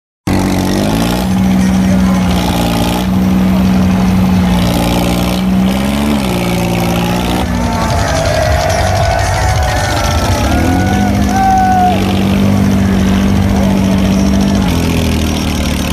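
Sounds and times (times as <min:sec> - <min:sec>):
tractor engine running hard: 0:00.3 - 0:15.9
voices: 0:00.6 - 0:15.9.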